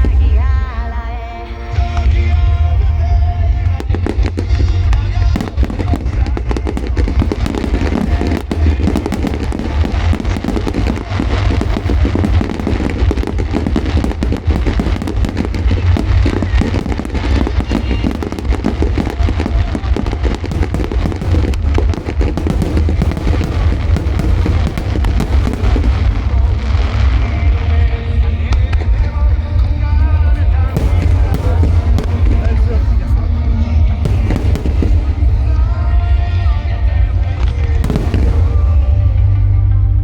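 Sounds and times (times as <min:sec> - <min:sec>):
fireworks booming and crackling: 0:00.0 - 0:00.9, 0:01.8 - 0:39.9
low rumble: 0:00.0 - 0:40.0
music playing: 0:00.0 - 0:40.0.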